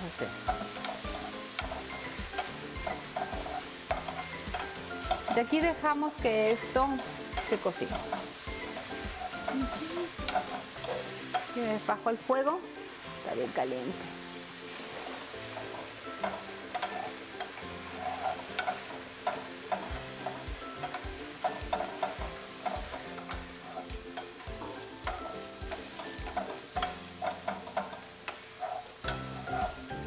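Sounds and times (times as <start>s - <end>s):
food sizzling in a frying pan: 0.0s - 30.0s
soft background music: 0.0s - 30.0s
wooden spatulas scraping a pan: 0.0s - 30.0s.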